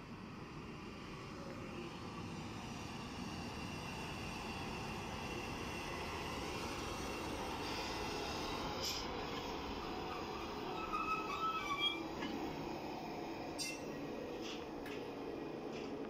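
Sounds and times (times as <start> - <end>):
electric train rolling in: 0.0 - 16.0.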